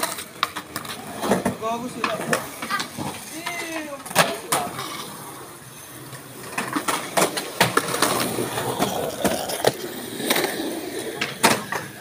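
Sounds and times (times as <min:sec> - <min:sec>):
skateboard clacks and knocks: 0:00.0 - 0:05.0, 0:06.4 - 0:12.0
skateboard wheels rolling on concrete: 0:00.0 - 0:12.0.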